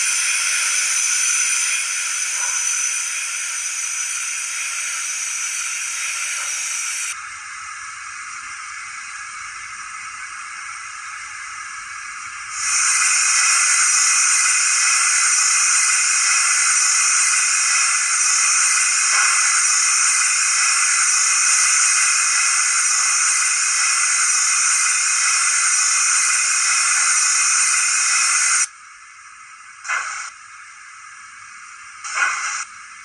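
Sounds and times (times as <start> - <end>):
steam hiss from small speaker: 0.0 - 33.0.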